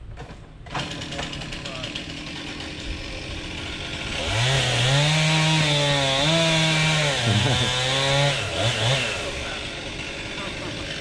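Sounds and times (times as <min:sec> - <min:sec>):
chainsaw cutting wood: 0:00.2 - 0:11.0.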